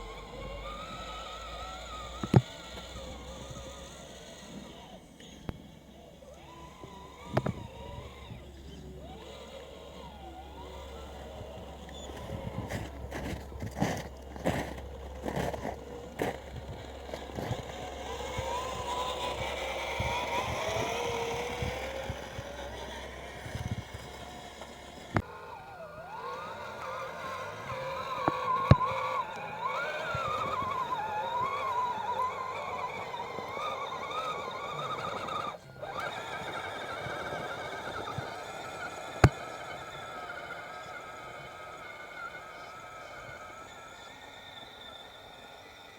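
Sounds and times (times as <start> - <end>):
electric motor whining: 0.0 - 45.9
small knocks and clicks: 0.2 - 5.8, 6.8 - 25.3, 26.7 - 39.9.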